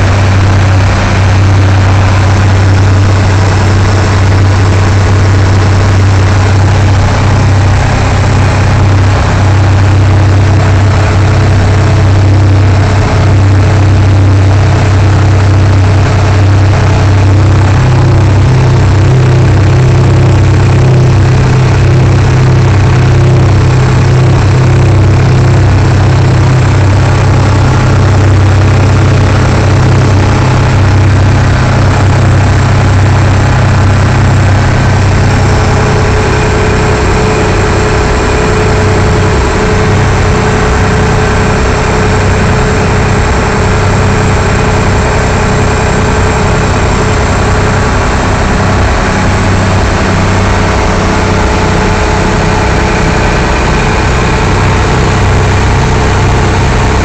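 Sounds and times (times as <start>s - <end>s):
motorboat engine drone: 0.0s - 57.0s.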